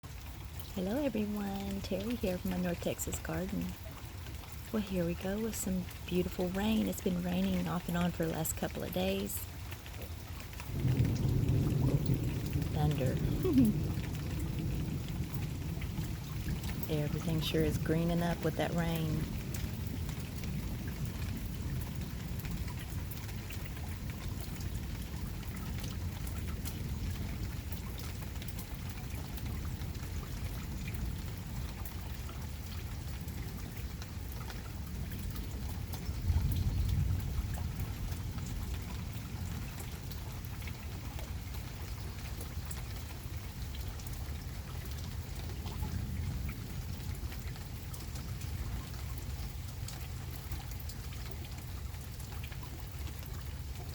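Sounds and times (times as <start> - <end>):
rain pattering on surfaces: 0.0 - 53.9.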